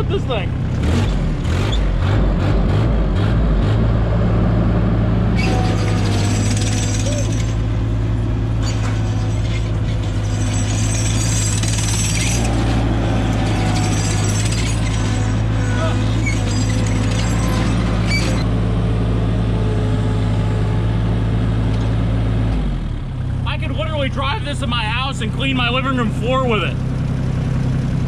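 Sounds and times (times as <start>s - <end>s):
track loader diesel engine running: 0.0s - 28.0s.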